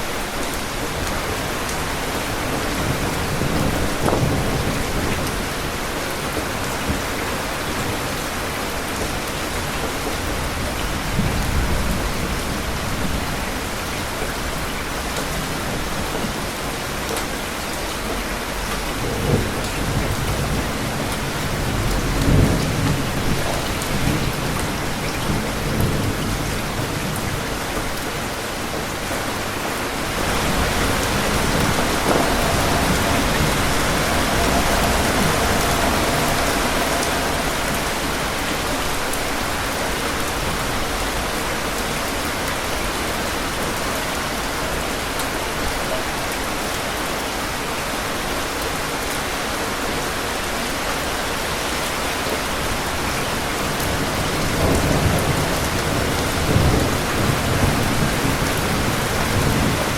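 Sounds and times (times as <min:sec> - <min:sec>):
steady rain: 0:00.0 - 0:59.9
thunder rumbling: 0:01.0 - 0:45.7, 0:52.5 - 0:59.9.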